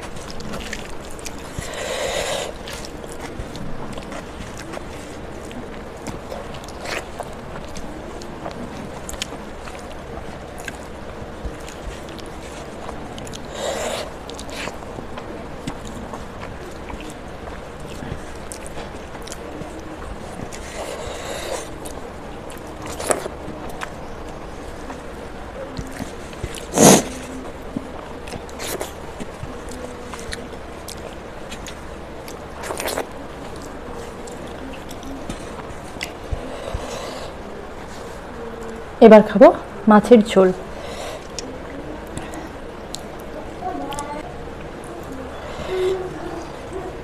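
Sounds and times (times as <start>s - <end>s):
chewing and wet mouth sounds: 0.0s - 39.0s, 40.6s - 47.0s.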